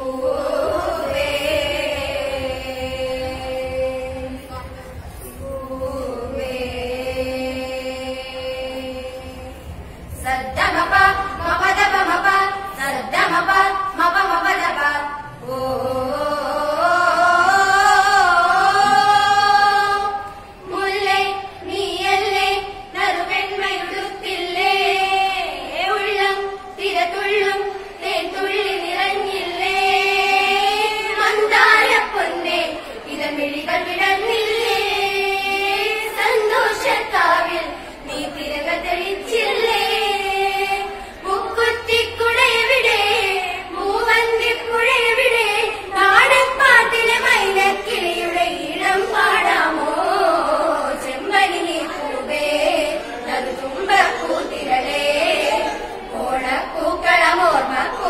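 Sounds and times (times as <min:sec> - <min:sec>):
girls singing together: 0:00.0 - 0:58.0.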